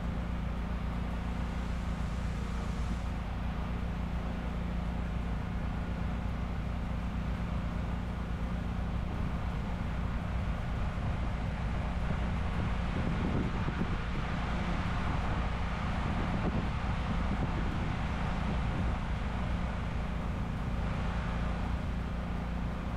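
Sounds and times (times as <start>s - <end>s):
pressure washer engine humming: 0.0s - 22.9s.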